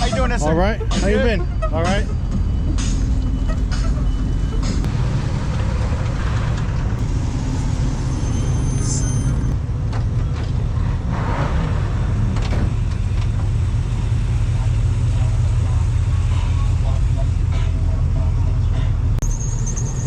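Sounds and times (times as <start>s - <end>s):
car engine running: 0.0s - 8.8s, 11.8s - 19.2s.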